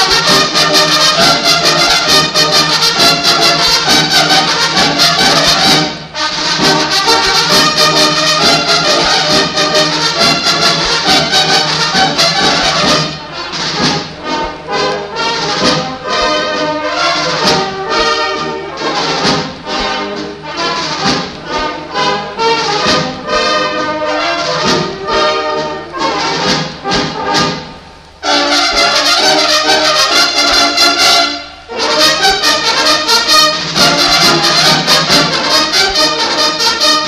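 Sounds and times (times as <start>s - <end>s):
military brass band playing a march: 0.0s - 37.0s.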